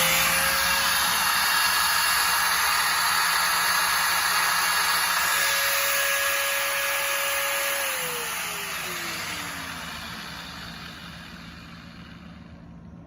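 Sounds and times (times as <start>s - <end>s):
drill motor whining: 0.0s - 12.6s.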